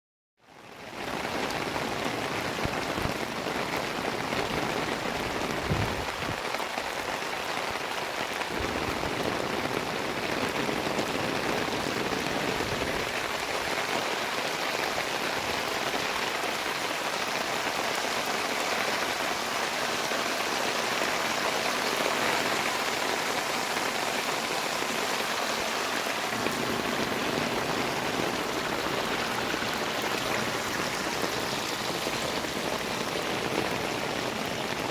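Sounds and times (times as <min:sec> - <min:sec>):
heavy rain pattering: 0:00.5 - 0:34.9.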